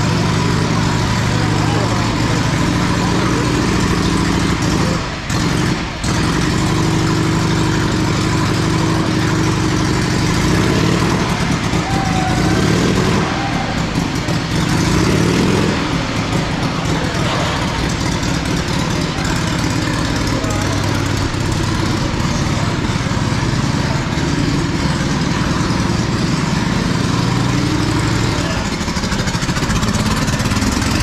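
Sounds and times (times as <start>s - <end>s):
motorcycle engine running hard: 0.0s - 31.0s.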